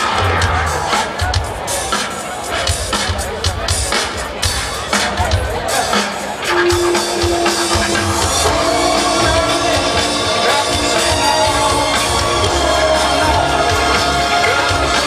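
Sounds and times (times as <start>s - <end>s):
live rock band playing loudly: 0.0s - 15.0s.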